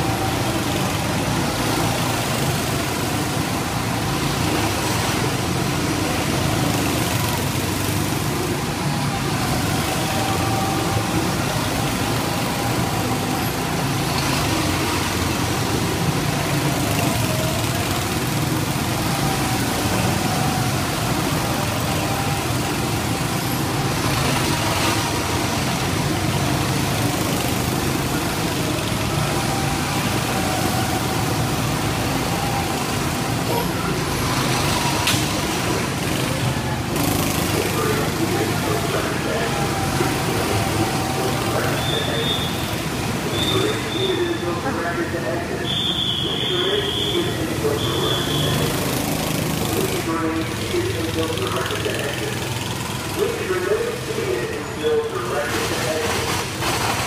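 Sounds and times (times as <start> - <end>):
go-kart engines droning: 0.0 - 57.0.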